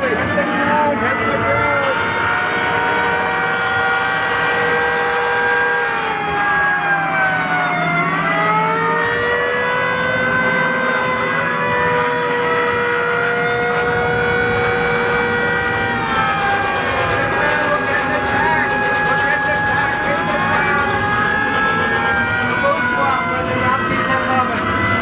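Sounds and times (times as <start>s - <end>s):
air-raid siren wailing: 0.0s - 25.0s.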